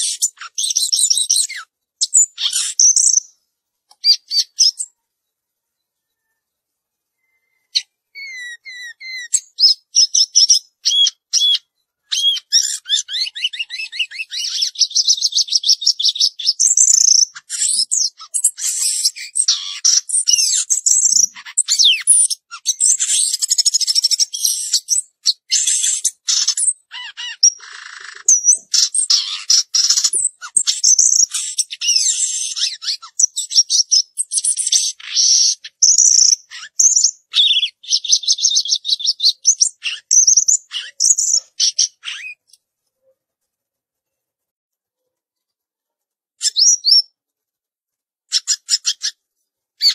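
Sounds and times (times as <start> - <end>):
bird singing chirps and trills: 0.0 - 3.3, 3.9 - 5.0, 7.2 - 42.6, 46.4 - 47.2.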